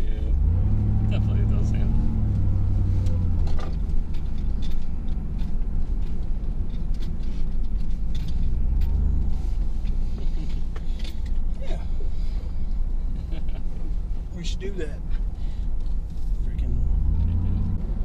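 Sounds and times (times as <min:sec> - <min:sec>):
truck engine low rumble: 0:00.0 - 0:18.0.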